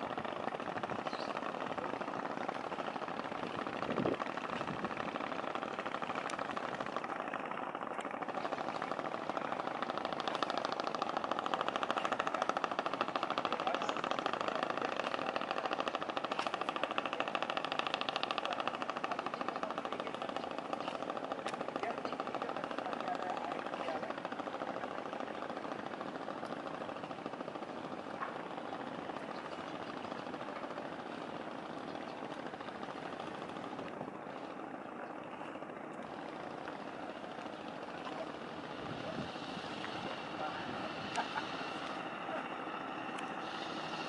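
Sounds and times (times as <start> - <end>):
engine running with fast chatter: 0.0 - 44.0.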